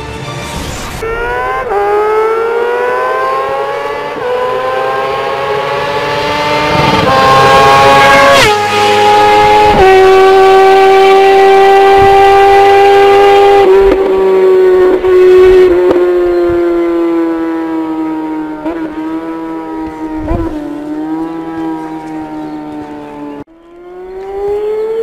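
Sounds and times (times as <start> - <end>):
motorcycle engine revving: 1.0 - 25.0.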